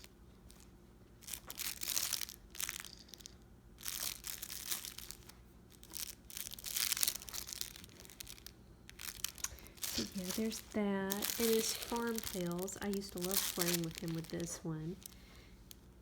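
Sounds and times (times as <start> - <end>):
cloth book pages crinkling: 0.0 - 16.0.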